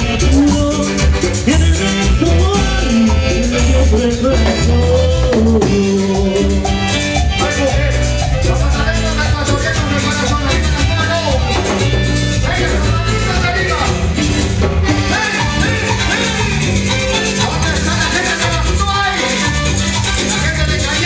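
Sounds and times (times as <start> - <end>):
latin dance band playing: 0.0 - 21.0.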